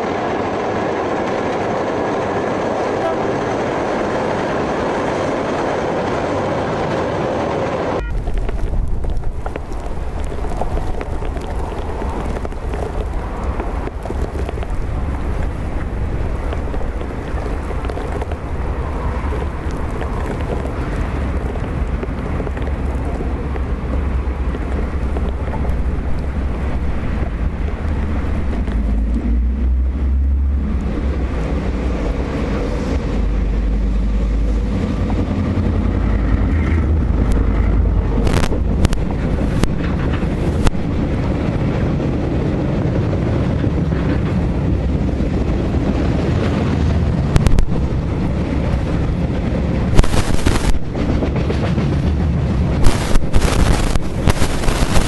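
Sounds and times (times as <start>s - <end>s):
freight train rumbling on rails: 0.0s - 55.0s
wind buffeting microphone: 0.0s - 55.0s.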